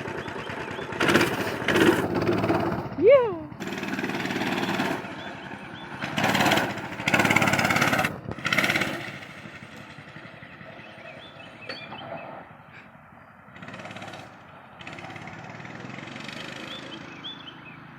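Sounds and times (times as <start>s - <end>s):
mini bike engine revving: 0.0s - 17.9s.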